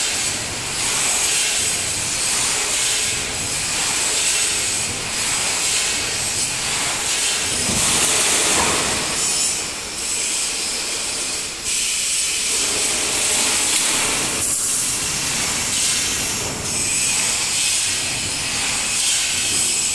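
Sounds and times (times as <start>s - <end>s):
welding machine hissing: 0.0s - 19.9s.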